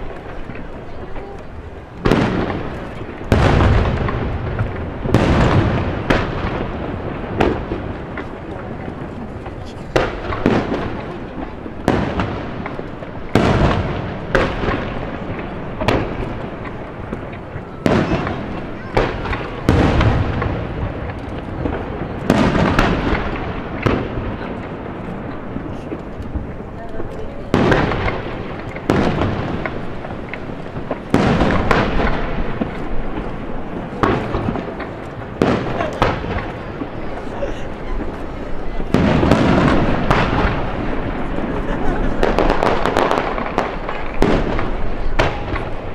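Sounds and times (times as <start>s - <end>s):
firework shells bursting: 0.0s - 45.9s
rolling echo: 0.0s - 45.9s.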